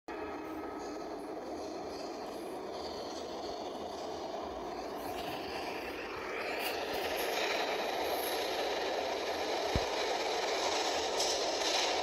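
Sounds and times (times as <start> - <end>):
subway train rumbling in tunnel: 0.1 - 12.0
wheels rattling on track: 0.1 - 12.0.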